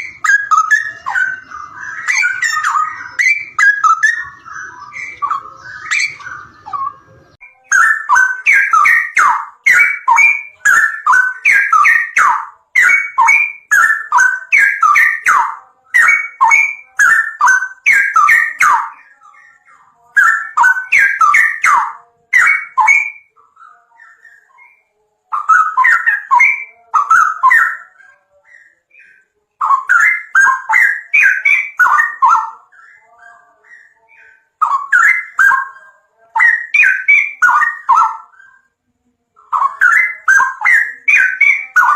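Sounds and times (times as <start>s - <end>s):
songbird chirping: 0.0s - 41.9s.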